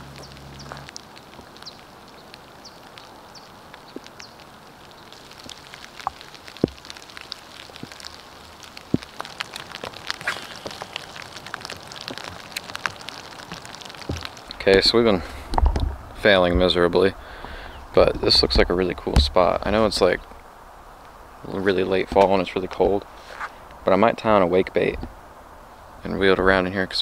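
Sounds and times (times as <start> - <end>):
faint steady rain hiss: 0.0 - 27.0
raindrops ticking: 0.0 - 27.0.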